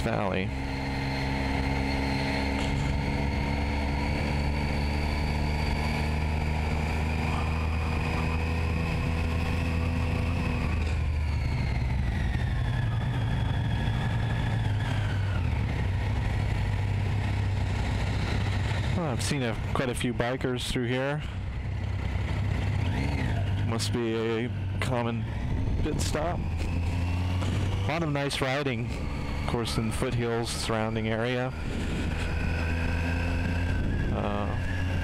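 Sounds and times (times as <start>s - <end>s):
motorcycle engine running: 0.0s - 35.0s
wind and road noise: 0.0s - 35.0s.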